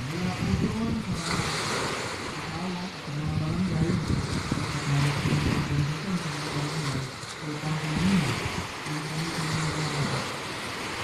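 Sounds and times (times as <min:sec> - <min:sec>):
muffled voice-like hum: 0:00.0 - 0:01.6, 0:02.4 - 0:10.3
small waves washing onto beach: 0:00.0 - 0:11.0
wind noise: 0:00.0 - 0:11.0.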